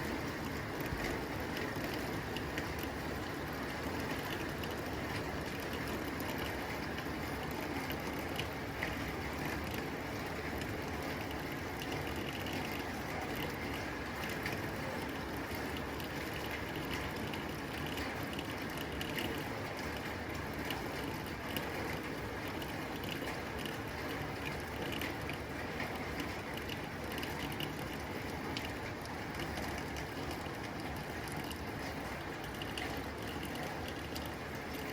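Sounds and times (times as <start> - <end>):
rain on a tin roof: 0.0 - 34.9.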